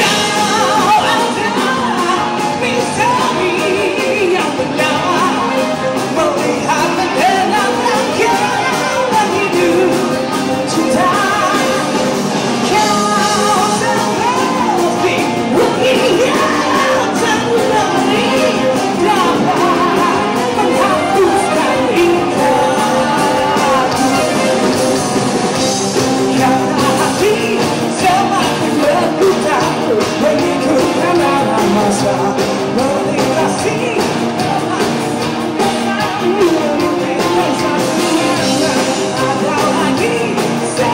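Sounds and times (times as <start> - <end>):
lead vocalist singing: 0.0 - 40.9
rock band playing: 0.0 - 40.9.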